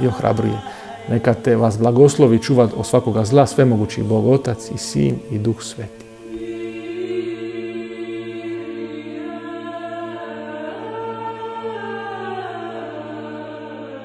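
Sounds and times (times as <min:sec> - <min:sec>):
slow chant: 0:00.0 - 0:14.0.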